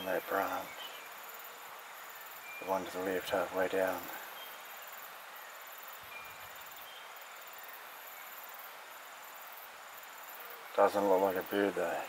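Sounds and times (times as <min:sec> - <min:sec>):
insects chirping: 0:00.0 - 0:12.0
outdoor background hiss: 0:00.0 - 0:12.0.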